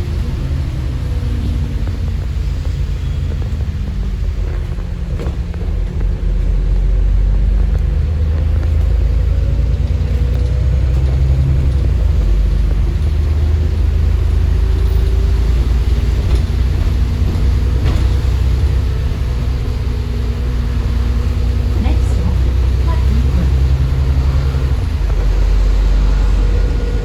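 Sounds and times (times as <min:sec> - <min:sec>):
bus diesel engine rumble: 0:00.0 - 0:27.0
faint engine whine: 0:00.0 - 0:27.0.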